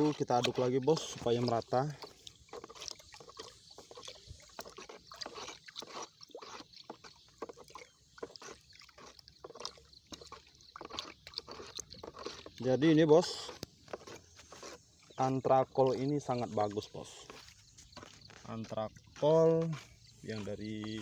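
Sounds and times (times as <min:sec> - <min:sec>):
liquid sloshing in a bucket: 0:00.0 - 0:21.0.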